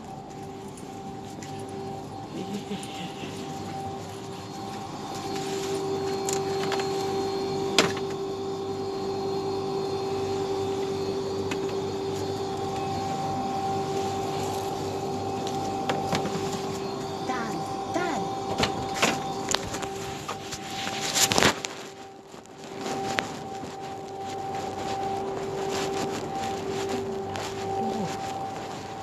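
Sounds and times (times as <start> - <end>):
machine hum with pitched drone: 0.0 - 29.0.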